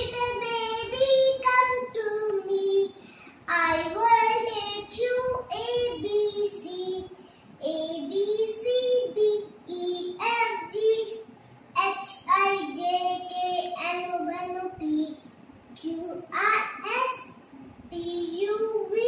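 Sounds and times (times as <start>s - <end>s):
young girl singing: 0.0s - 19.0s.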